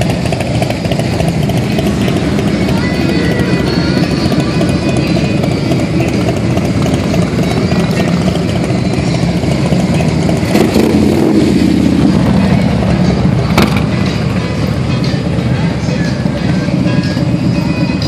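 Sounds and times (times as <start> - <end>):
motorcycles idling: 0.0 - 18.0.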